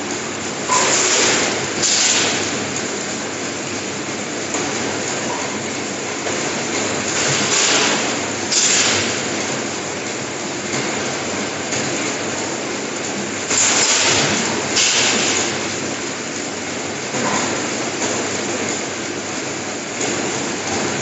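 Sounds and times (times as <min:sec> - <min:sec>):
conveyor and packing machinery: 0:00.0 - 0:21.0.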